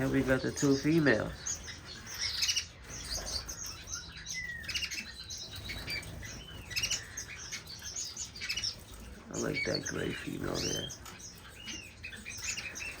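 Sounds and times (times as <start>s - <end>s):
finches and canaries chirping: 0.0s - 13.0s.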